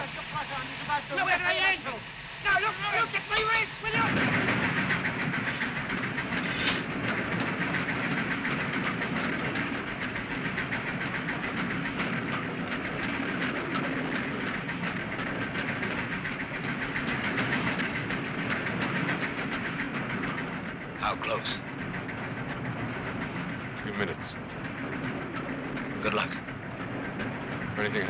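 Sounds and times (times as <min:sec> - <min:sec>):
steam locomotive rumble and rattle: 0:00.0 - 0:28.0
wheels clattering: 0:02.7 - 0:28.0.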